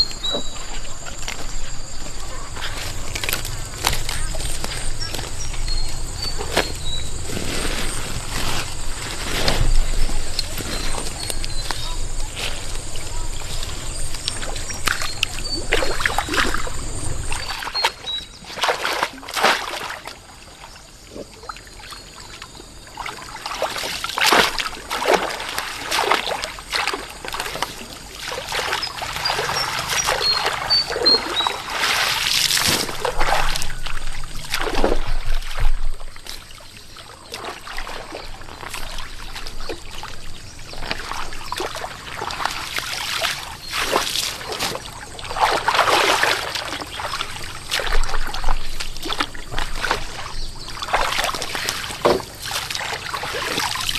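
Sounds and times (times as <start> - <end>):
water splashing and trickling: 0.0 - 53.9.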